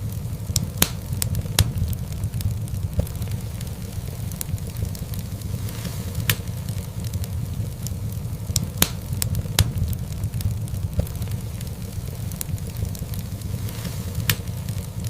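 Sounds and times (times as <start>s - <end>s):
fire popping: 0.0s - 15.0s
low rumble: 0.0s - 15.0s
wood fire crackling: 0.0s - 15.0s.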